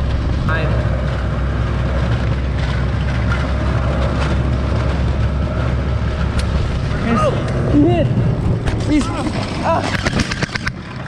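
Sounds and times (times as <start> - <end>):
small vehicle motor running: 0.0 - 11.0
wind buffeting microphone: 0.0 - 11.0.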